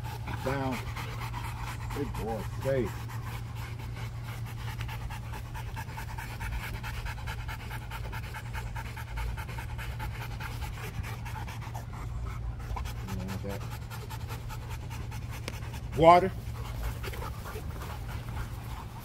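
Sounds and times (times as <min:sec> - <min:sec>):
dog panting rapidly: 0:00.0 - 0:19.0
steady low hum: 0:00.0 - 0:19.0.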